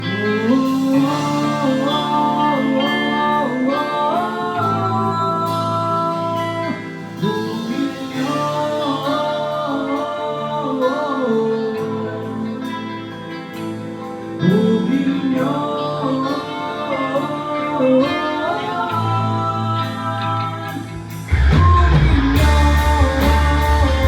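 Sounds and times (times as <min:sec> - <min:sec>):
live band playing: 0:00.0 - 0:24.0.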